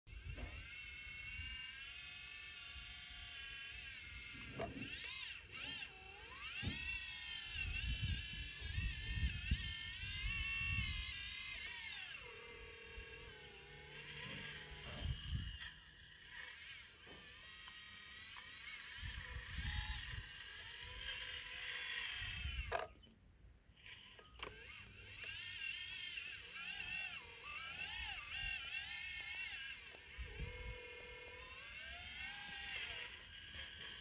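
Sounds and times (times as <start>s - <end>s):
hydraulic pump whining: 0.1s - 34.0s.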